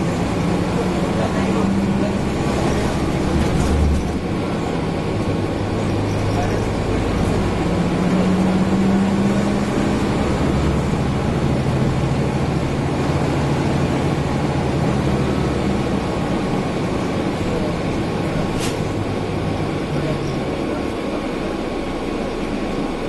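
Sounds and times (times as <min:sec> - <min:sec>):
bus engine drone: 0:00.0 - 0:23.0.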